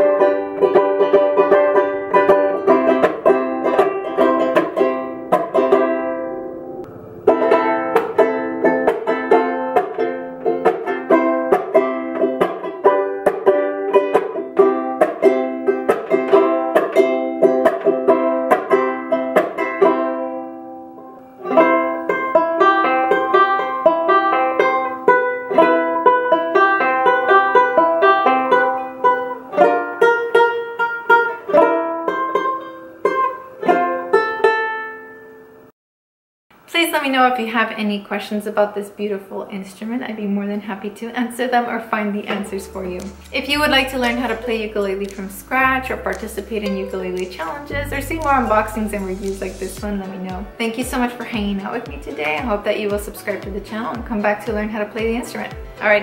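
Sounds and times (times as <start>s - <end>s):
banjo ukulele strummed chords: 0.0s - 35.6s, 41.7s - 56.0s.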